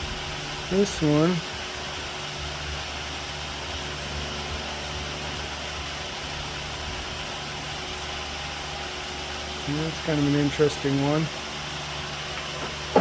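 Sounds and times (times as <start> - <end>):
constant hiss: 0.0 - 13.0
machine humming: 0.0 - 13.0.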